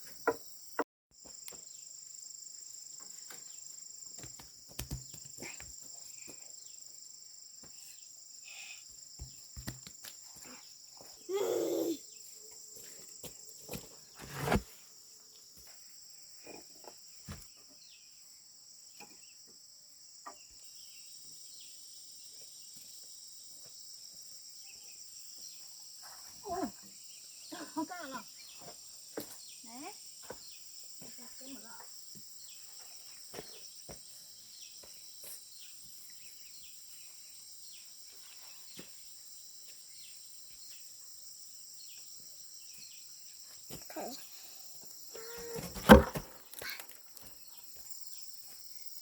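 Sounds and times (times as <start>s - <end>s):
high-pitched insect chorus: 0.6s - 13.8s, 17.8s - 45.6s.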